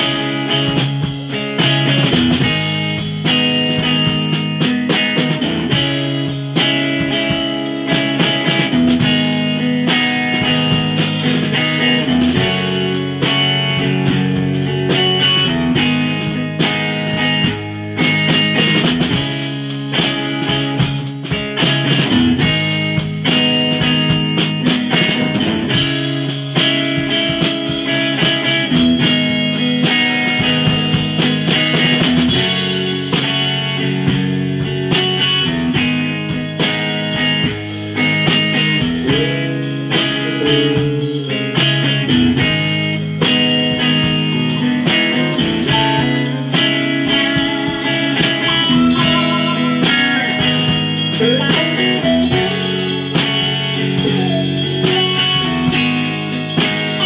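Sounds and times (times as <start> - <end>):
drum kit hits: 0.0 - 57.0
electric guitar playing blues: 0.0 - 57.0.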